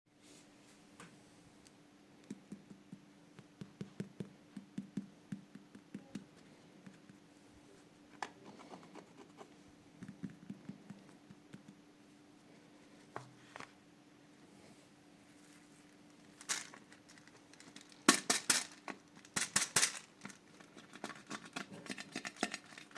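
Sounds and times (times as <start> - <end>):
faint steady hum: 0.1 - 22.9.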